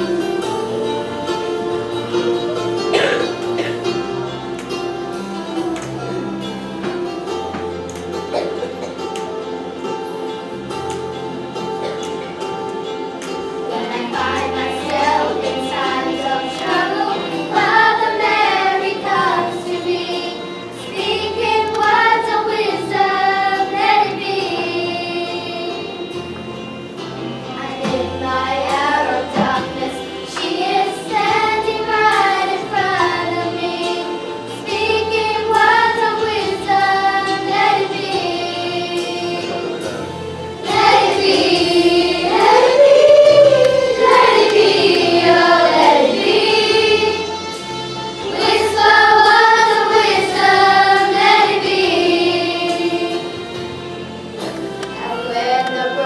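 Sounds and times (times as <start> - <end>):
children singing: 0.0 - 56.0
low accompaniment notes: 0.0 - 56.0.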